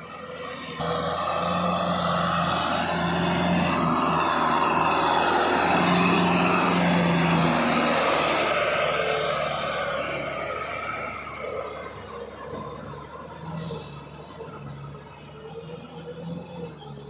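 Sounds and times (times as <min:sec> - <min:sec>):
tractor engine under load: 0:00.0 - 0:17.0.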